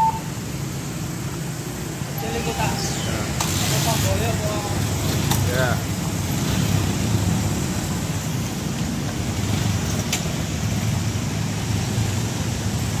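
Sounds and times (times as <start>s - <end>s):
motorcycles and car passing: 0.0s - 13.0s.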